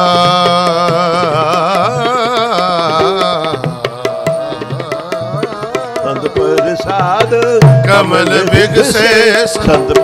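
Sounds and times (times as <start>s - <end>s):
harmonium: 0.0s - 10.0s
tabla strokes: 0.0s - 10.0s.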